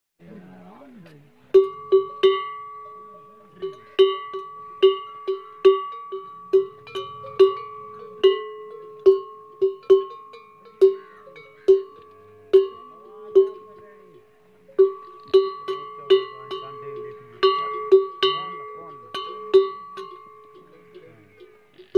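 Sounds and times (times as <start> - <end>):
metal bell ringing: 1.5 - 21.9.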